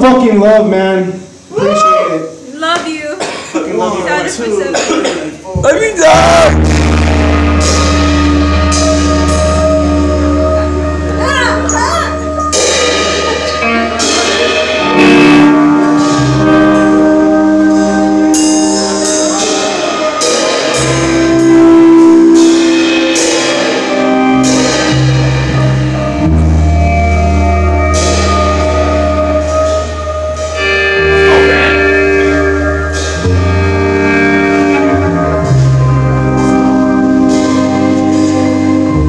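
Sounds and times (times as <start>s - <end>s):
drum kit with cymbal hits: 0.0s - 39.0s
guitars and bass chords: 5.6s - 39.0s.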